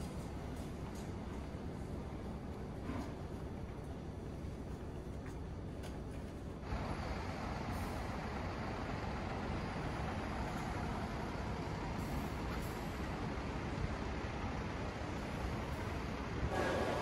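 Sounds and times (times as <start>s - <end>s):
bus engine rumble: 0.0s - 17.0s
traffic noise: 0.0s - 17.0s.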